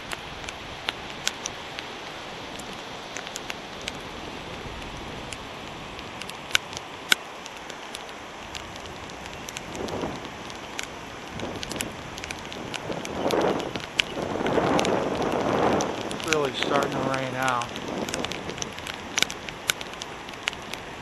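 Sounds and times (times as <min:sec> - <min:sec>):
rain hiss: 0:00.0 - 0:21.0
raindrops ticking on microphone: 0:00.0 - 0:21.0.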